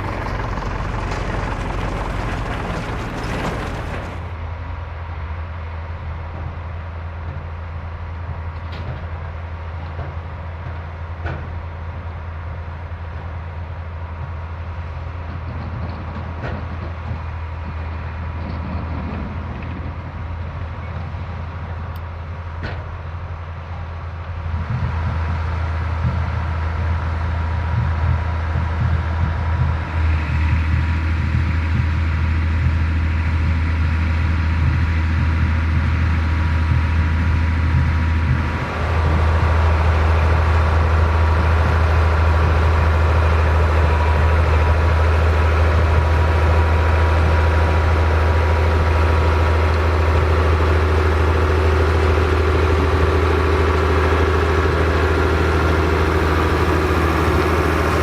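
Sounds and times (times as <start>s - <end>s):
tractor engine humming: 0.0s - 58.0s.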